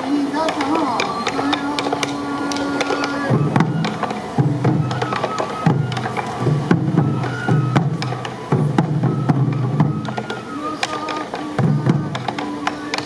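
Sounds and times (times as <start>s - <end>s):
high flute notes: 0.0s - 13.0s
taiko drums: 0.0s - 13.0s.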